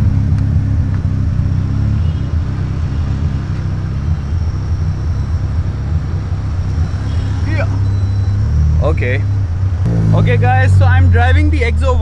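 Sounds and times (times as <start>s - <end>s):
buggy engine idling: 0.0s - 12.0s.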